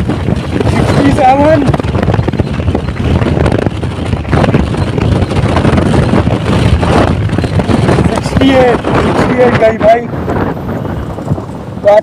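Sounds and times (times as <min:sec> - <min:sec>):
scooter road noise: 0:00.0 - 0:12.0
wind buffeting microphone: 0:00.0 - 0:12.0.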